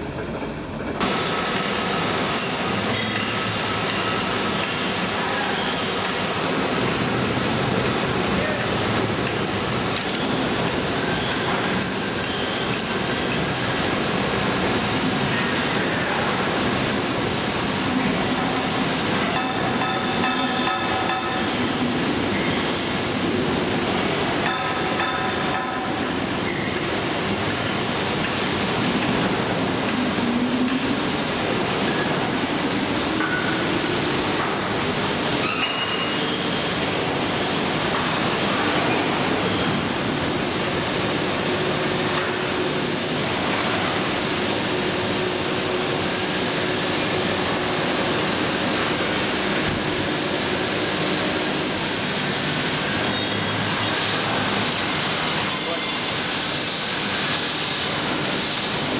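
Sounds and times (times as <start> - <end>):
train rushing rail noise: 0.0 - 58.9.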